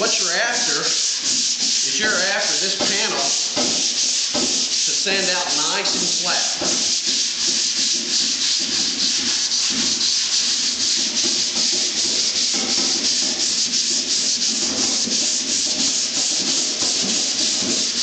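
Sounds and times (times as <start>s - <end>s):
sanding block rasping: 0.0s - 18.0s.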